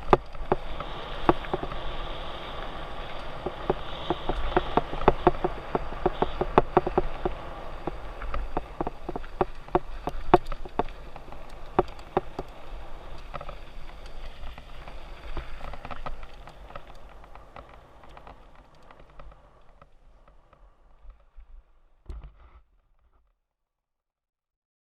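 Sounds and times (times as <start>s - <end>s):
bike rattling over bumps: 0.0s - 21.3s
wind rumble: 0.0s - 22.0s
gravel crunching under tyres: 0.0s - 22.5s.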